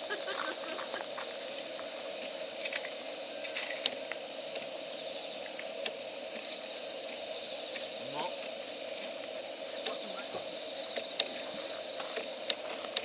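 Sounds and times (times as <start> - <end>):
campfire crackling: 0.0 - 13.0
fire popping: 0.0 - 13.0
steady hiss: 0.0 - 13.0.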